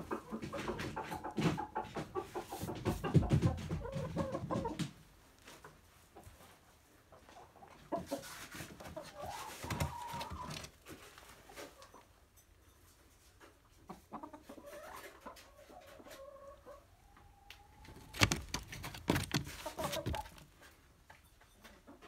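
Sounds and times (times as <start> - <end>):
chickens clucking: 0.0 - 12.3, 12.9 - 22.0.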